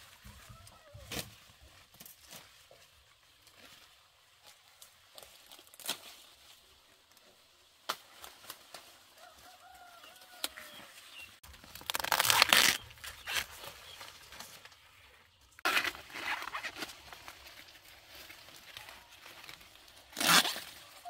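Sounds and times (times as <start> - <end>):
dry leaves rustling and tearing: 0.0 - 21.0.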